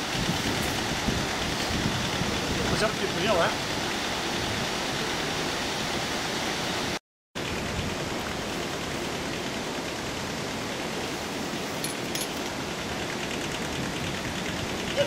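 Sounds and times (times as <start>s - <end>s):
water rushing at a weir: 0.0s - 15.0s.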